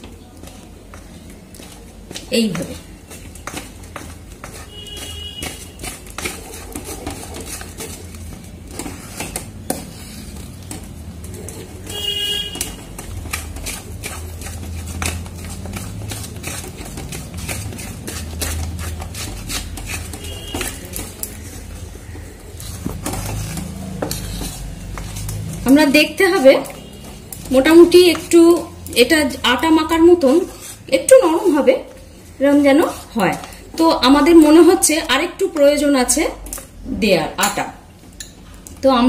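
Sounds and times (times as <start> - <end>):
spatula scraping and tapping pan: 0.0 - 36.8, 37.4 - 38.8.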